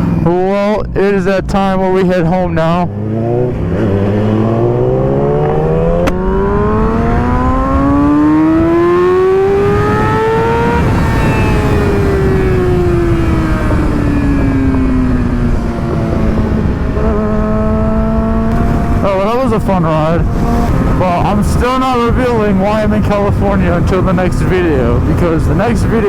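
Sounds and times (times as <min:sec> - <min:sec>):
motorcycle engine accelerating: 0:00.0 - 0:26.0
rushing wind: 0:00.0 - 0:26.0.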